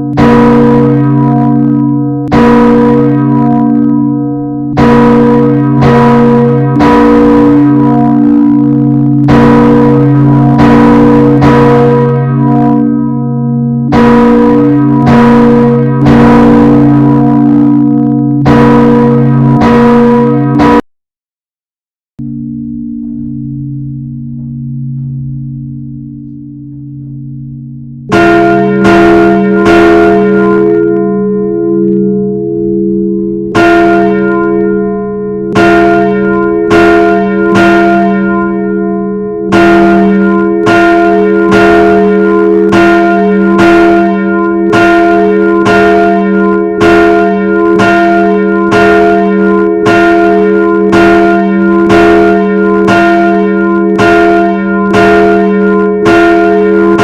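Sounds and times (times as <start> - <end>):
bells ringing: 0.0 - 20.8, 22.3 - 57.0.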